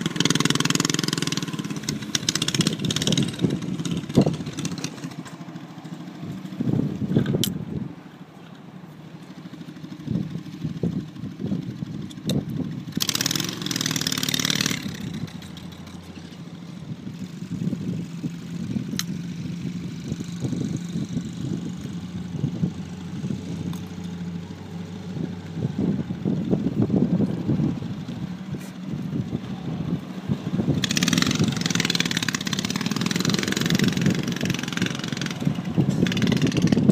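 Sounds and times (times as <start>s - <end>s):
off-road vehicle engine revving: 0.0s - 7.9s, 9.2s - 36.9s.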